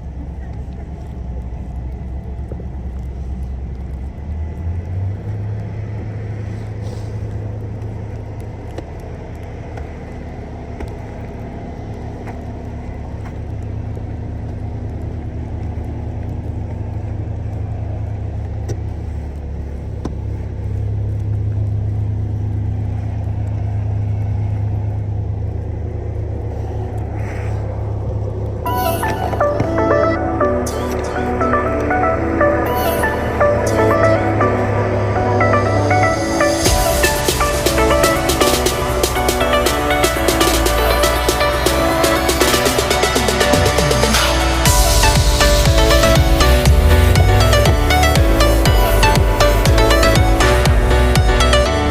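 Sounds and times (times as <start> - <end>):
car engine and road hum: 0.0 - 51.9.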